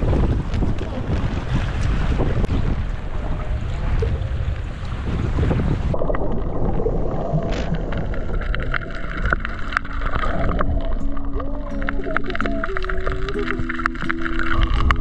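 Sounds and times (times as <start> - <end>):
shallow water sloshing: 0.0 - 15.0
underwater clicks and crackles: 0.0 - 15.0
wind on microphone: 0.0 - 15.0.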